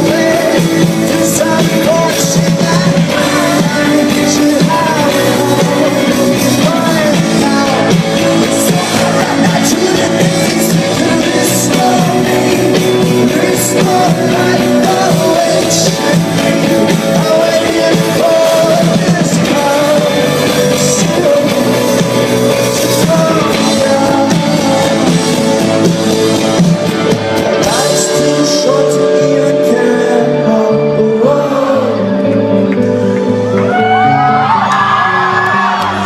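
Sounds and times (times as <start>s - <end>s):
man singing lead vocal: 0.0s - 36.0s
rock band playing live: 0.0s - 36.0s.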